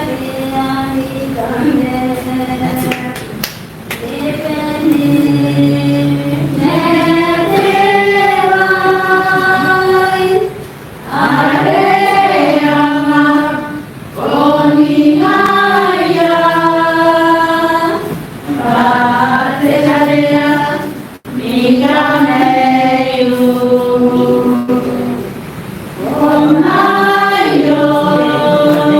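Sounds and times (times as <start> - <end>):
choir singing a hymn: 0.0 - 3.4, 4.0 - 28.9.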